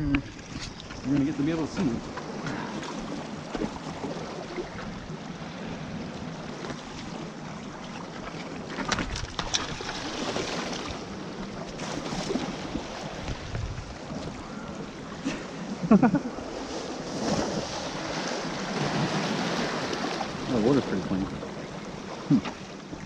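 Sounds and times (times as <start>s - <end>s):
person wading through water: 0.0s - 23.0s
water sloshing among rocks: 0.1s - 15.2s, 16.4s - 23.0s.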